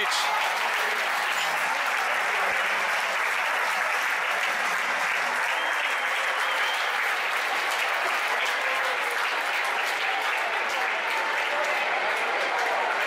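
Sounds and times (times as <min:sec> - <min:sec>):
stadium crowd clapping: 0:00.0 - 0:13.0.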